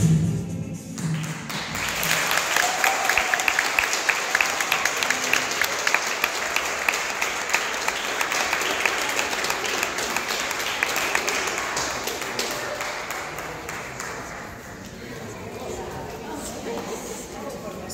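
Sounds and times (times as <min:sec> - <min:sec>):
audience applause: 0:01.0 - 0:17.2.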